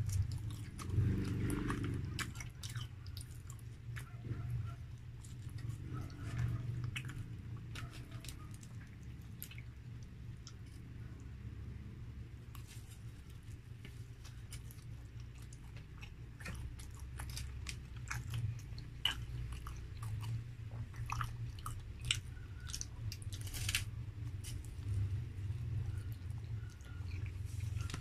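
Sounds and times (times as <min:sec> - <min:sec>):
person chewing a burger: 0:00.0 - 0:28.0
steady low hum: 0:00.0 - 0:28.0.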